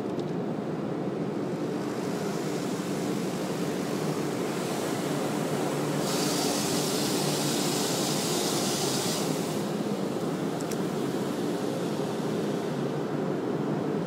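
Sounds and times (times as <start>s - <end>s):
car wash machinery rumble: 0.6s - 14.0s
hiss of spray: 1.6s - 13.2s.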